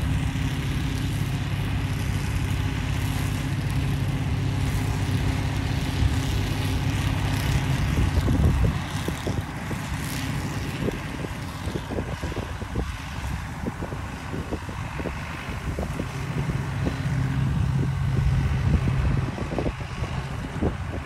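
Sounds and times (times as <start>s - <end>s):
lawn mower engine running: 0.0s - 21.0s
wind rumbling on microphone: 0.0s - 21.0s.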